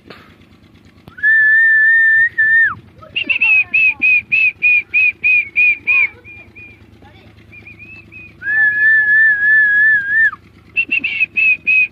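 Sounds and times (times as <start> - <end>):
person whistling: 1.1 - 6.8, 7.5 - 11.9.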